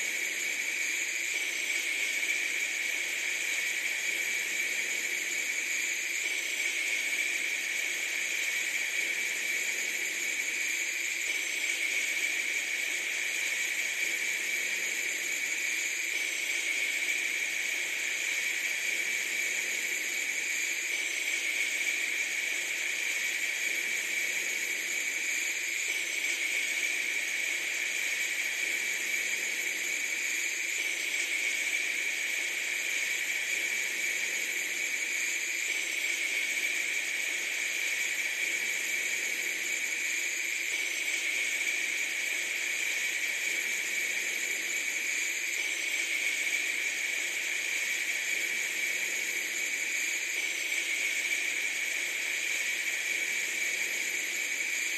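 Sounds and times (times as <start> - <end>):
steady hiss: 0.0 - 54.9.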